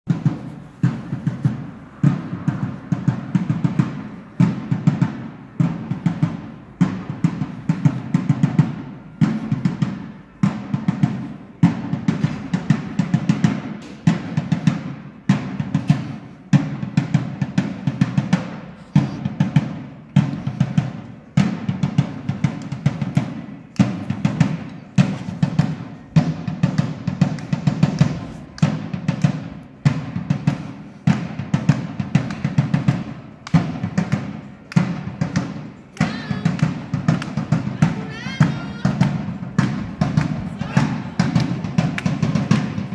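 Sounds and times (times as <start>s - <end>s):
drum kit driving beat: 0.1s - 42.9s.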